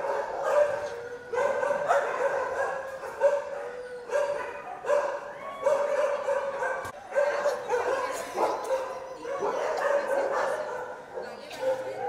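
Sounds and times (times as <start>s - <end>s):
dogs barking and yelping: 0.0s - 12.0s.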